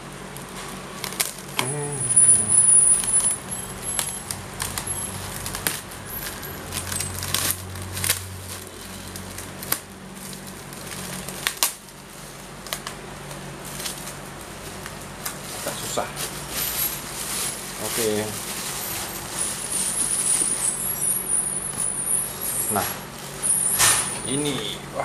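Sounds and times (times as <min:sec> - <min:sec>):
plastic wrapping crinkling: 0:00.3 - 0:24.7.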